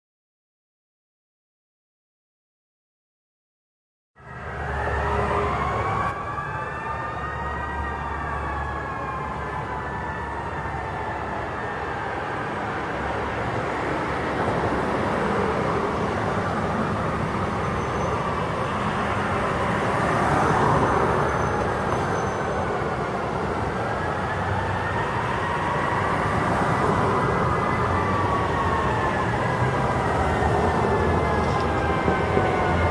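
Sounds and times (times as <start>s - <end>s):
fire engine sirens wailing: 4.2s - 32.9s
street traffic: 4.2s - 32.9s.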